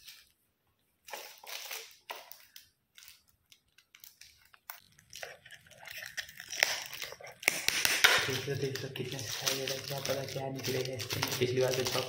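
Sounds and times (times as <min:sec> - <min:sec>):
wrapping paper tearing and crinkling: 0:00.0 - 0:00.4, 0:01.0 - 0:12.0.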